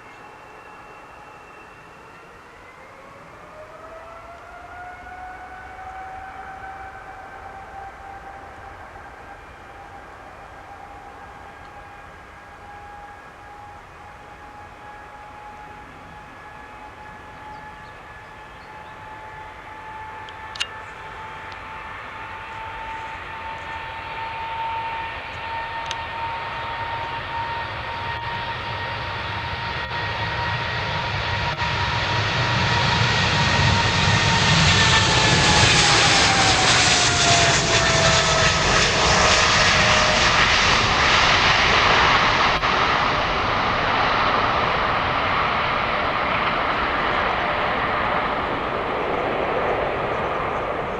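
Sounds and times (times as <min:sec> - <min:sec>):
jet engine rumble and roar: 0:00.0 - 0:50.9.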